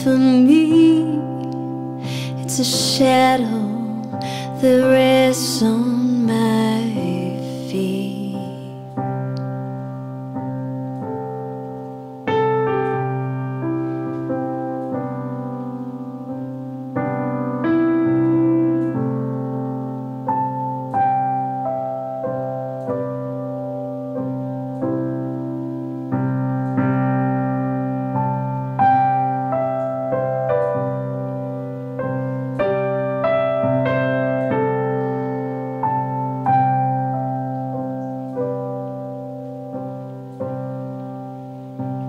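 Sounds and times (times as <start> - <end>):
solo piano: 0.0 - 42.0.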